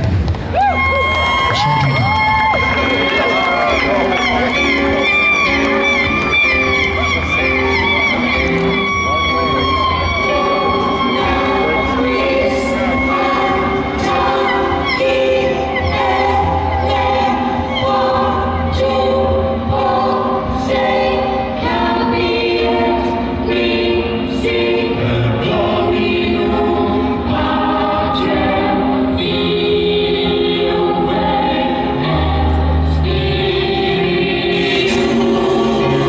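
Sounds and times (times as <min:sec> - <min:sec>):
choir singing over keyboards: 0:02.5 - 0:36.0.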